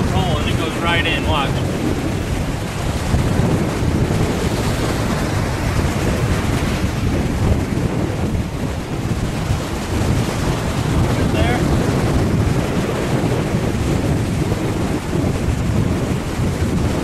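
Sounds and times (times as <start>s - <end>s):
surf breaking on beach: 0.0s - 17.0s
wind buffeting microphone: 0.0s - 17.0s.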